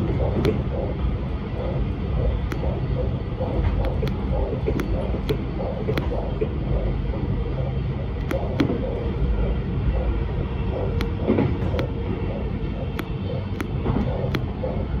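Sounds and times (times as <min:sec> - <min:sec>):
sharp clicks: 0:00.0 - 0:09.1, 0:10.8 - 0:15.0
train rumble: 0:00.0 - 0:15.0.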